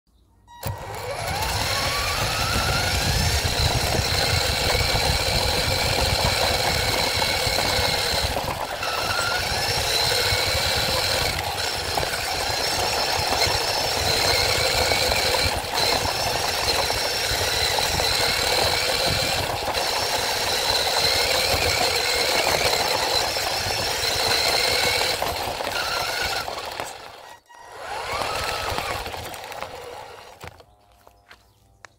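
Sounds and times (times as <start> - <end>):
rc car motor whine: 0.5 - 30.8
chassis rattling on dirt: 0.6 - 31.6.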